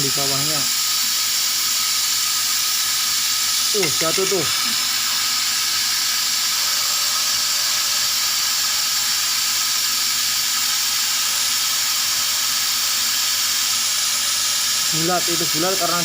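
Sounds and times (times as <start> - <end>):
laser cutter hissing: 0.0 - 16.0.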